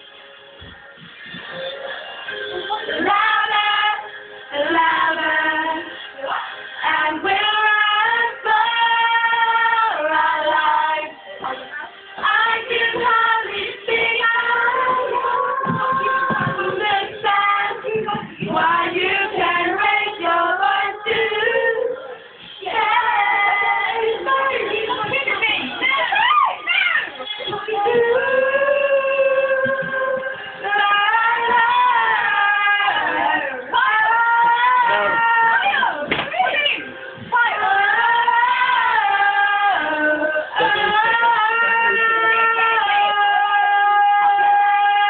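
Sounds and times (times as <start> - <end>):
girls singing into microphones: 0.0 - 45.0.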